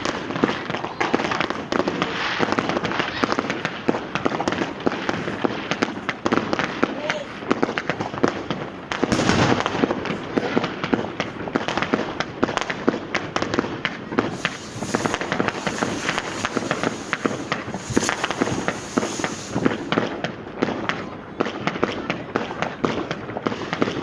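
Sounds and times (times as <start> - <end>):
fireworks and firecrackers: 0.0 - 24.0.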